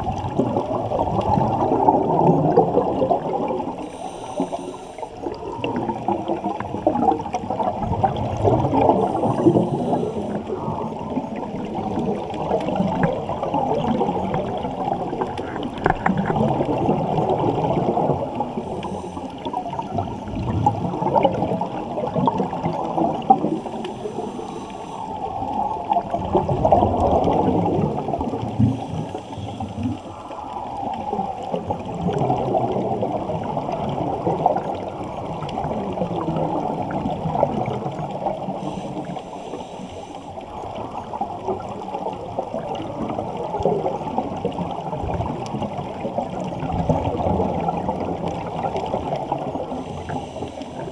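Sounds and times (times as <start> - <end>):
muffled underwater swirling: 0.0 - 50.9.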